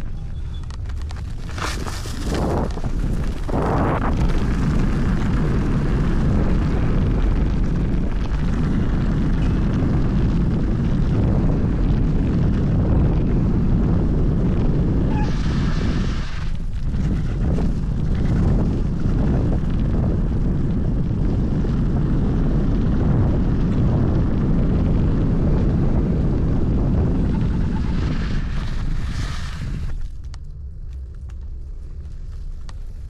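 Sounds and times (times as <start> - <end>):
scooter ride noise: 0.0 - 30.2
wind buffeting microphone: 0.0 - 33.0.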